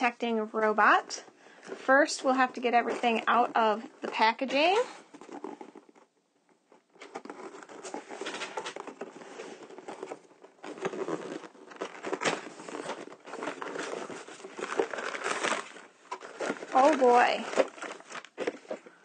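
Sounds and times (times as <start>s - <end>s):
cardboard rustling and scraping: 1.5s - 19.0s.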